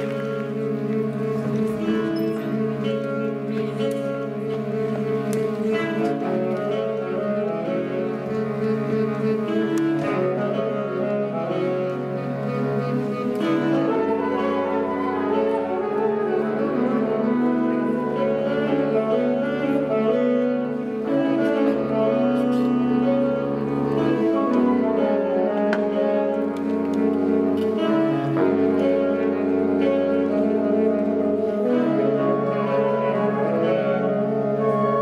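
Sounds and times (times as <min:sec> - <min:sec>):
woodwind ensemble playing chords: 0:00.0 - 0:35.0.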